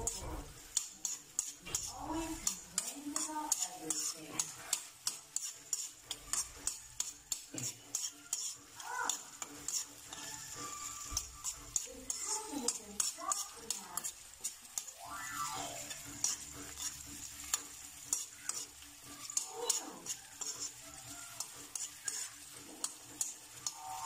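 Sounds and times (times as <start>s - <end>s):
metal spatula scraping wok: 0.0s - 24.0s
onion and garlic sizzling in oil: 0.0s - 24.0s.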